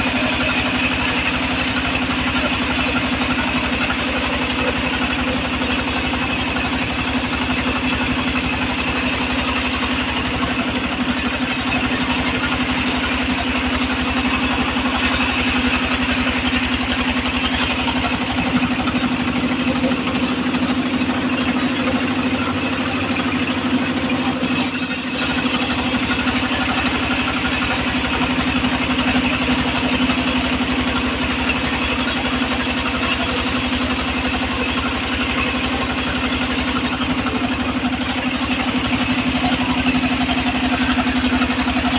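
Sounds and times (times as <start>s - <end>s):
sawmill motor humming: 0.0s - 41.9s.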